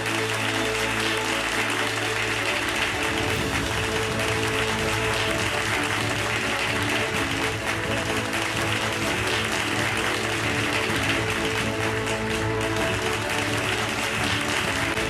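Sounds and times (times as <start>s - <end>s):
audience applause: 0.0s - 15.0s
background music with held tones: 0.0s - 15.0s.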